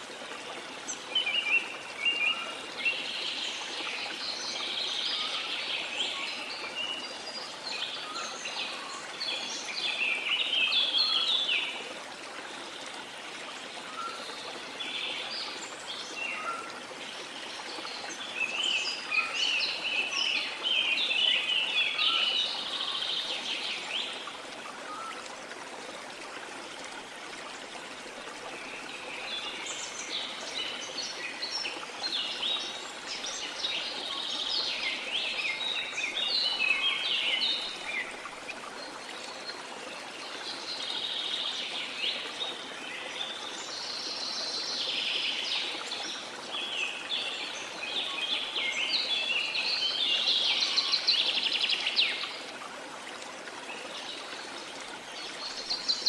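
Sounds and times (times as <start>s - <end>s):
moving water: 0.0s - 56.0s
songbirds chirping and twittering: 0.0s - 56.0s.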